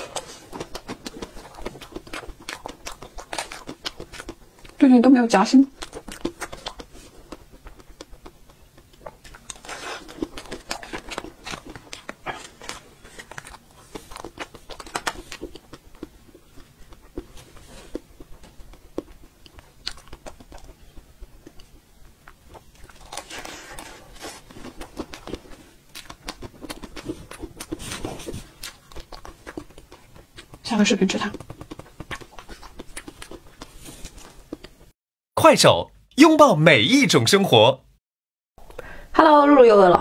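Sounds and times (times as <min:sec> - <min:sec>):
chewing with mouth clicks: 0:00.0 - 0:04.8, 0:05.7 - 0:34.9.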